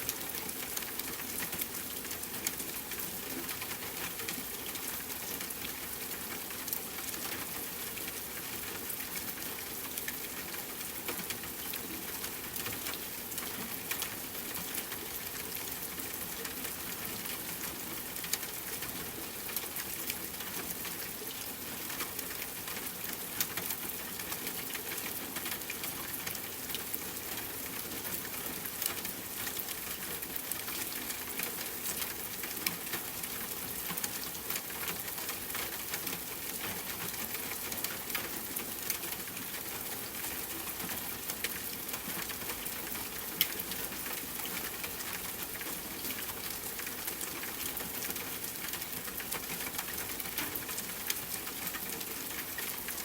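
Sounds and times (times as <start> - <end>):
rain falling on a tent: 0.0 - 53.0.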